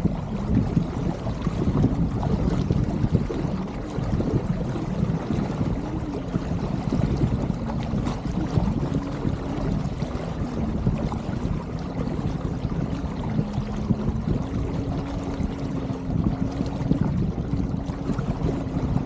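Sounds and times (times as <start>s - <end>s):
water washing along a boat hull: 0.0s - 19.0s.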